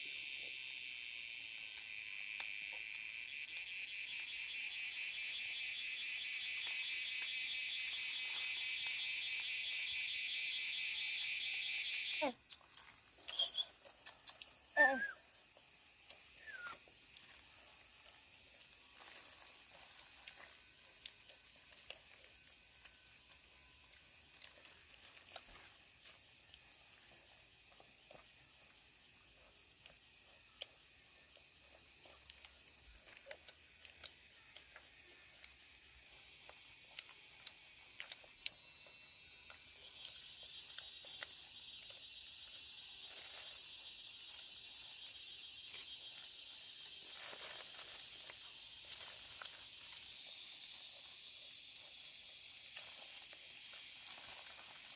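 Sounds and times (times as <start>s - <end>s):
insects and frogs chorus: 0.0s - 54.9s.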